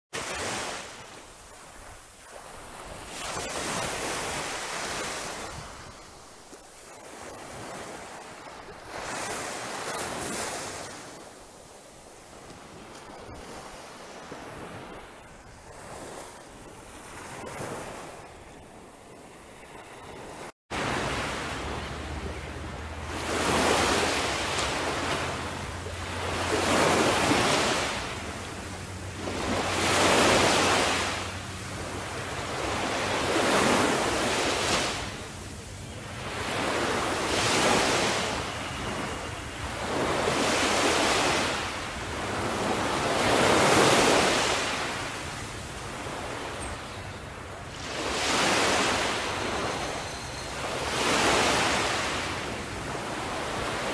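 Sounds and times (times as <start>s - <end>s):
small waves washing onto beach: 0.1s - 53.9s.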